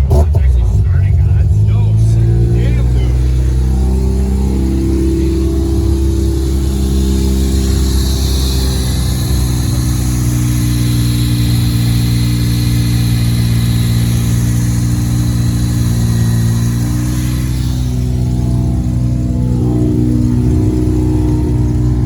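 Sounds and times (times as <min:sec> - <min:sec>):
car engine running: 0:00.0 - 0:22.0
faint high whine: 0:00.5 - 0:22.0.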